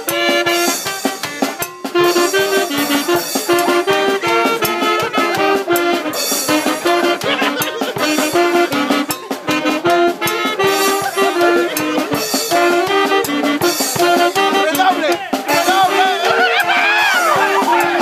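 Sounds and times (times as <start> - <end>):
brass horns playing melody: 0.0 - 18.0.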